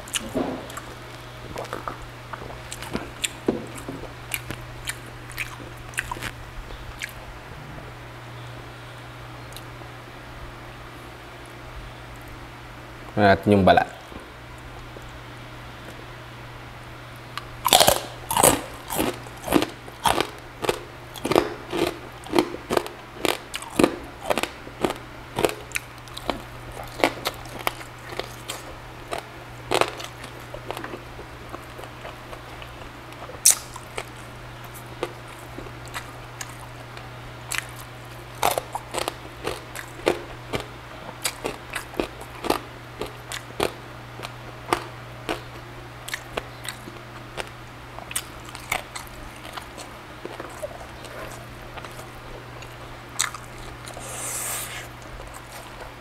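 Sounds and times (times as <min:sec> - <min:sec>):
crunchy chewing: 0:00.0 - 0:07.2, 0:17.2 - 0:56.0
steady low hum: 0:00.0 - 0:56.0.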